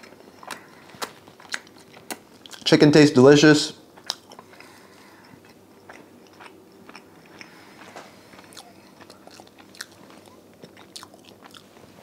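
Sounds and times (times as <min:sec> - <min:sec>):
person chewing: 0:00.0 - 0:02.7, 0:03.9 - 0:12.0.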